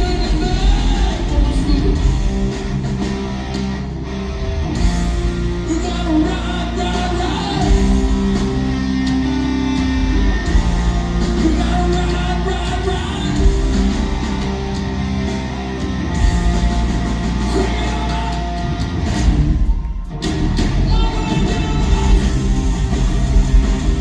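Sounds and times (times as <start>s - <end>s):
bass and drums: 0.0s - 24.0s
electric guitar: 0.0s - 24.0s.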